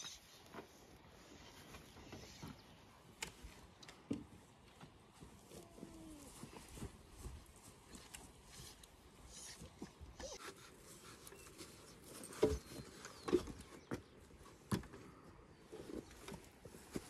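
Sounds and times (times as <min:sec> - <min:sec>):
low outdoor ambience: 0:00.0 - 0:17.0.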